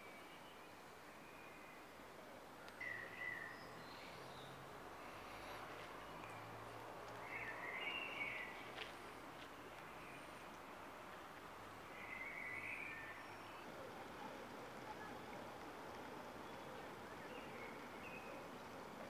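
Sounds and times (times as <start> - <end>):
faint outdoor background noise: 0.0 - 19.0.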